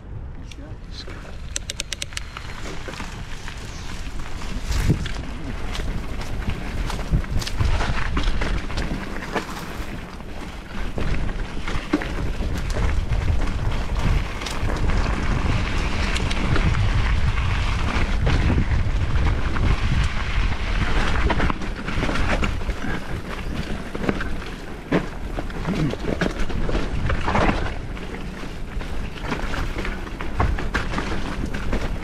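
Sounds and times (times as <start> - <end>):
wind buffeting microphone: 0.0 - 32.0
bike tyres on dirt trail: 1.0 - 32.0
bike clicks and rattles: 1.4 - 32.0.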